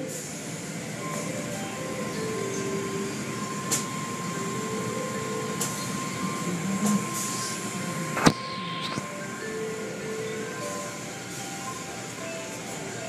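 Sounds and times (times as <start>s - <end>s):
car wash water spray and machinery: 0.0s - 13.0s
thin whine: 0.0s - 13.0s.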